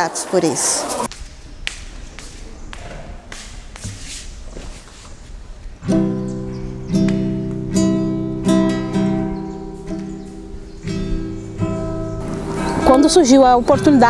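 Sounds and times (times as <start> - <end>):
acoustic guitar strumming chords: 1.1 - 14.0.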